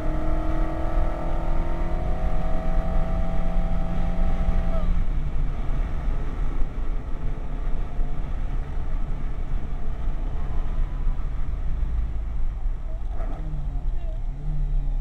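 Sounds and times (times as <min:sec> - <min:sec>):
car engine and road noise drone: 0:00.0 - 0:15.0.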